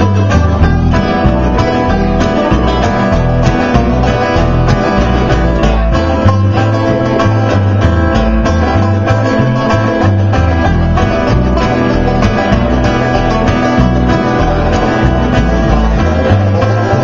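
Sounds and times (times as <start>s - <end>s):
acoustic guitar picking: 0.0s - 17.0s
banjo picking: 0.0s - 17.0s
bass line: 0.0s - 17.0s.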